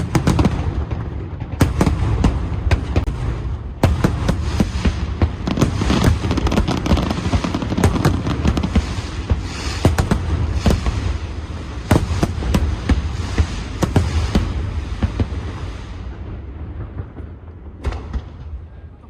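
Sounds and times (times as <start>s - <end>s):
deep rumble of booms: 0.0s - 19.0s
fireworks bangs and crackles: 0.0s - 19.0s.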